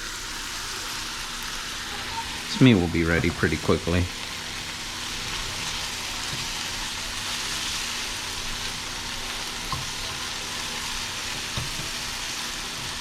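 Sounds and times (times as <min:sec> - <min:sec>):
steak sizzling in a pan: 0:00.0 - 0:13.0.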